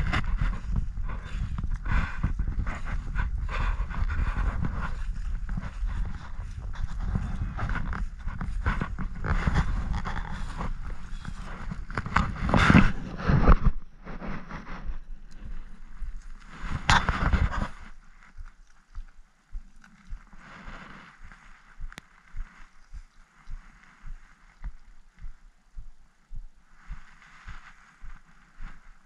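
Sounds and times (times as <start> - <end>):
soft low thumps: 0.0 - 28.9
brush and grass rustling: 0.0 - 29.0.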